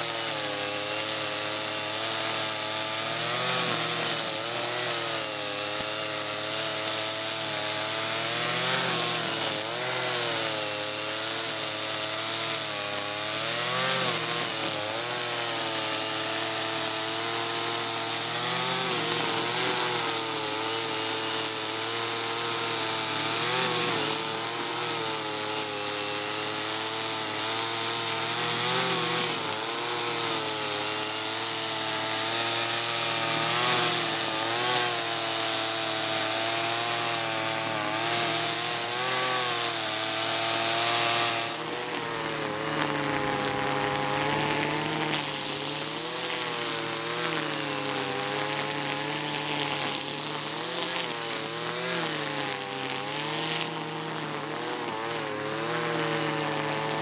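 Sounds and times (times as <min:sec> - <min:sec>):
brushcutter engine cutting grass: 0:00.0 - 0:57.0.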